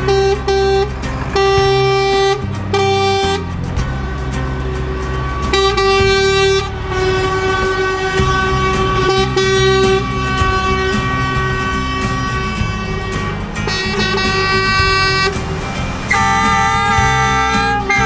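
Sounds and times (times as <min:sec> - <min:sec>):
diesel lorry engines rumbling: 0:00.0 - 0:18.0
truck horns honking: 0:00.0 - 0:18.0.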